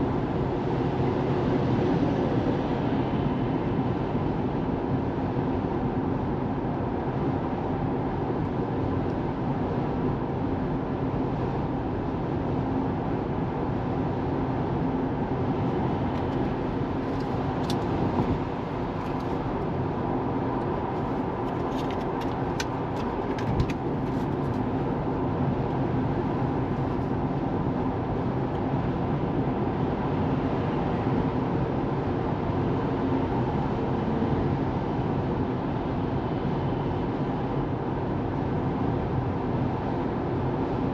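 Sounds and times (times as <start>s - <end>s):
car road and tyre noise: 0.0s - 40.9s.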